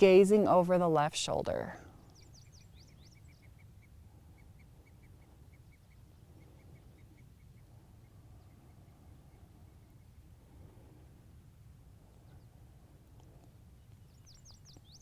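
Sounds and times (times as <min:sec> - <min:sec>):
faint birdsong: 0:01.4 - 0:15.0.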